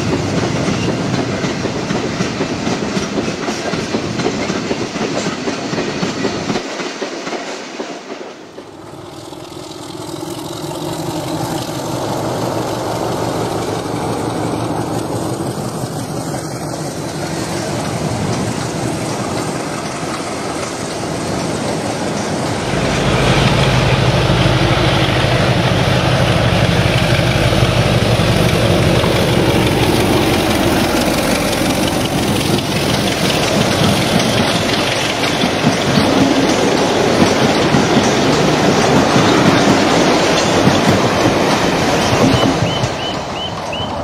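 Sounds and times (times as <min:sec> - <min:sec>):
wheels clicking over rail joints: 0:00.0 - 0:22.9, 0:25.2 - 0:44.0
train rumbling past: 0:00.0 - 0:44.0.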